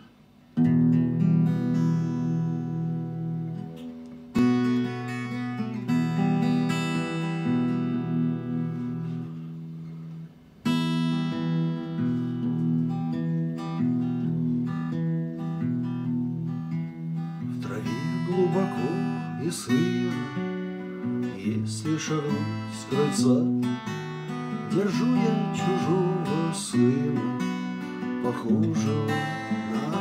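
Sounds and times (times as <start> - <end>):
acoustic guitar picked chords: 0.0 - 30.0.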